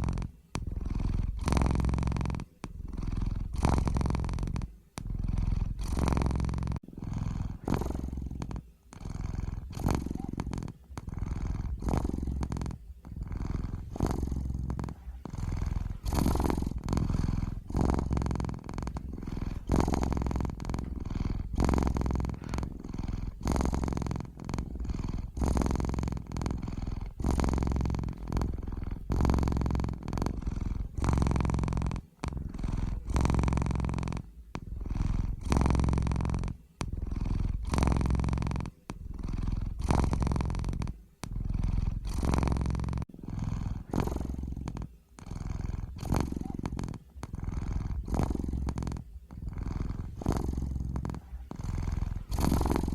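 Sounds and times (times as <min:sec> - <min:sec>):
cat purring: 0:00.0 - 0:52.9.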